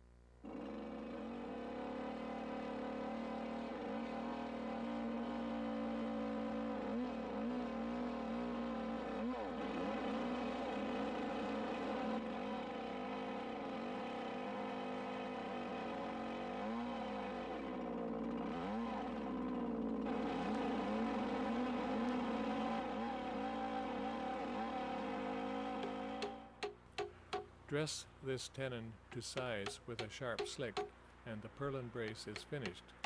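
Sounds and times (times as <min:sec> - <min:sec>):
chainsaw cutting wood: 0:00.4 - 0:27.6, 0:29.1 - 0:31.0, 0:32.0 - 0:33.0.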